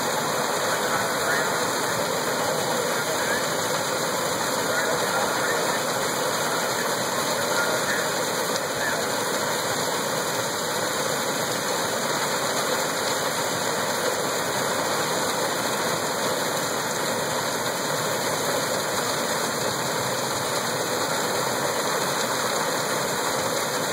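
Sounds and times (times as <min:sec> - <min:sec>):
continuous rushing noise: 0:00.0 - 0:23.9
threshing machine running: 0:00.0 - 0:23.9.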